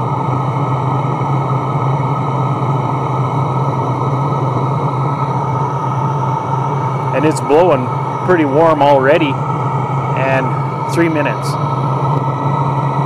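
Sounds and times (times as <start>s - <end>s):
air heater fan and burner rushing: 0.0s - 13.0s
steady low hum: 0.0s - 13.0s.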